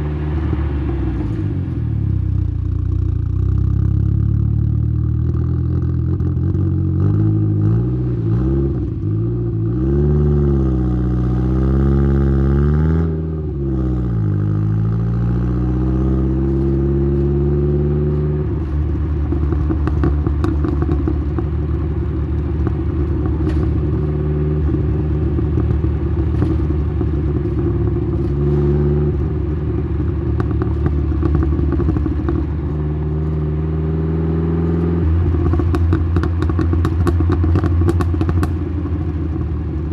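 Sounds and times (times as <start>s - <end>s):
car exhaust revving: 0.0s - 39.9s.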